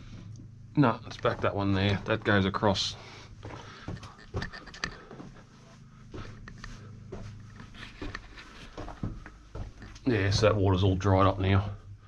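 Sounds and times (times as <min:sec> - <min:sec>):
low steady hum: 0:00.0 - 0:12.0
footsteps on dirt and rock: 0:01.0 - 0:11.9.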